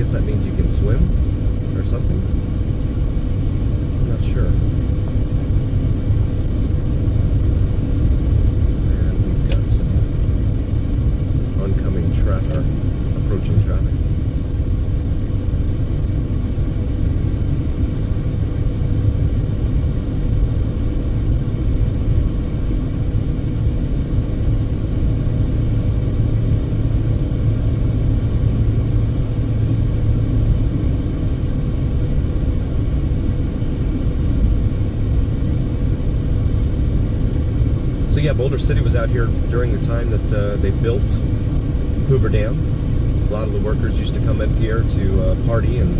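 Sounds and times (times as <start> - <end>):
car road and engine rumble: 0.0 - 45.9
faint steady hum: 0.0 - 45.9.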